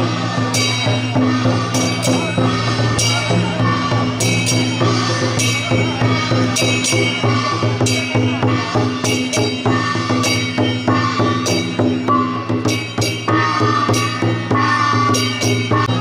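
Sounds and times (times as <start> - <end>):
drum and cymbal percussion: 0.0 - 16.0.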